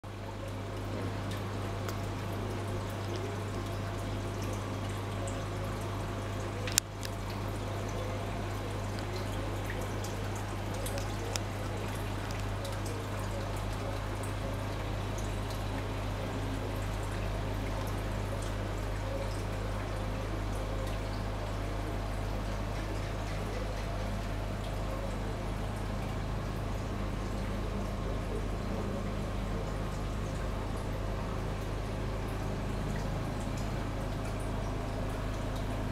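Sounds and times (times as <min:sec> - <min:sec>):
aquarium water trickling: 0:00.0 - 0:35.9.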